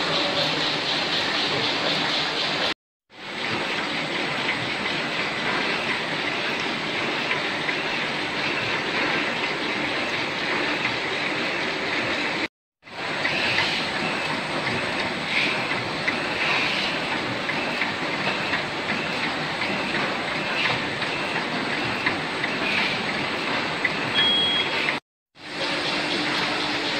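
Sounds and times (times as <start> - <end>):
cutting machine clatter: 0.0 - 26.9.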